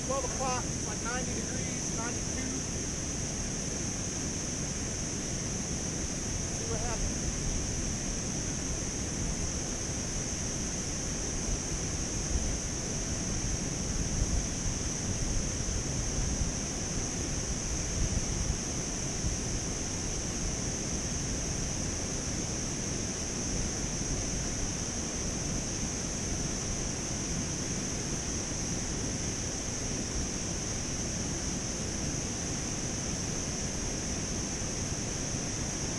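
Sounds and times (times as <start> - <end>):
high-pitched hiss: 0.0 - 35.9.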